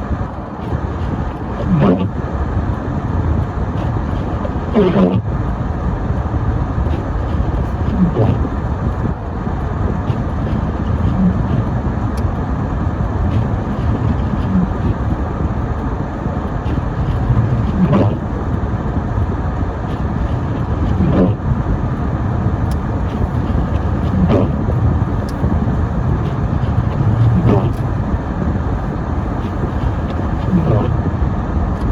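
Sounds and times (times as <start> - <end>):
road and tyre noise: 0.0 - 31.9.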